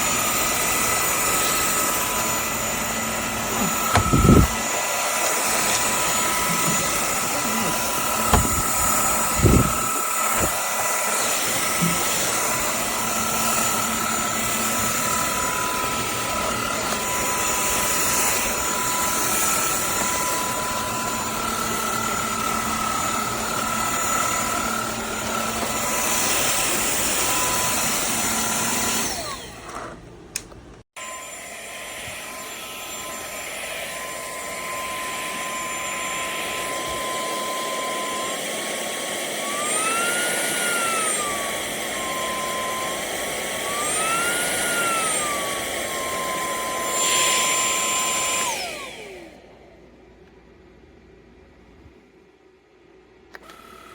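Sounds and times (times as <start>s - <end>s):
stick vacuum cleaner running: 0.0s - 50.6s, 53.3s - 53.9s.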